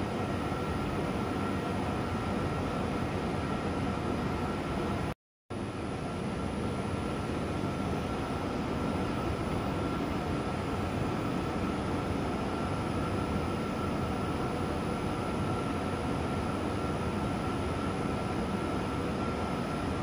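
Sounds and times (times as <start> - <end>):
machine hum and hiss: 0.0 - 20.0.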